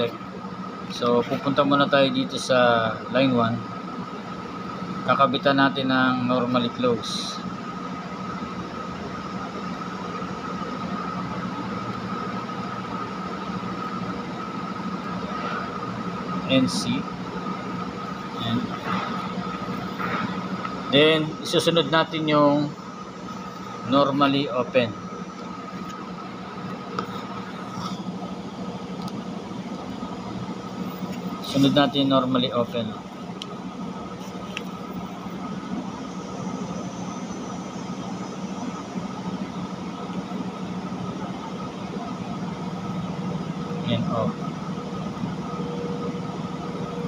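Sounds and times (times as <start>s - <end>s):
faint high whine: 0.0s - 47.0s
mechanical hum and hiss: 0.0s - 47.0s.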